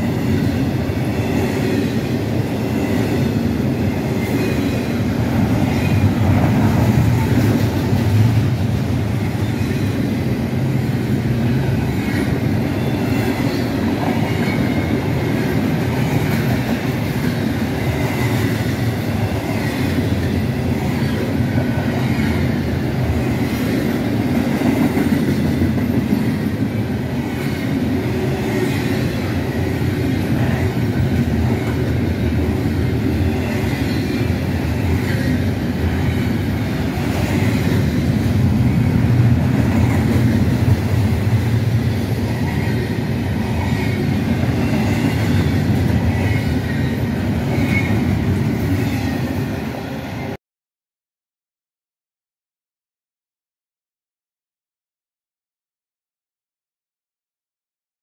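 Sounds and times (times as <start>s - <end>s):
freight train wheels on rails: 0.0s - 50.4s.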